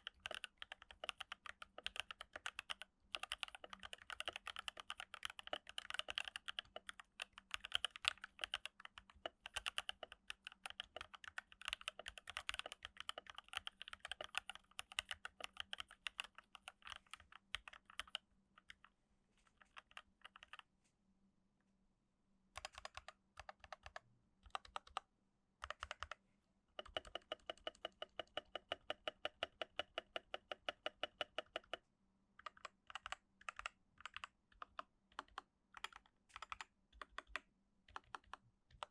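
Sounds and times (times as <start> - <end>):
mechanical keyboard typing: 0.0 - 18.9, 19.7 - 20.6, 22.6 - 25.0, 25.6 - 26.2, 26.8 - 31.8, 32.4 - 38.9.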